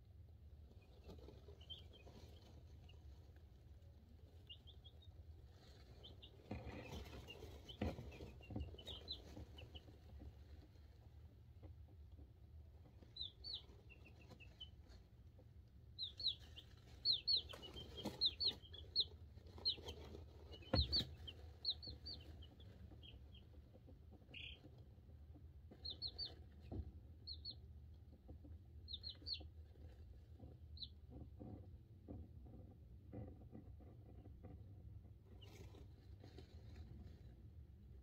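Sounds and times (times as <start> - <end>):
chicks peeping: 0.3 - 38.0.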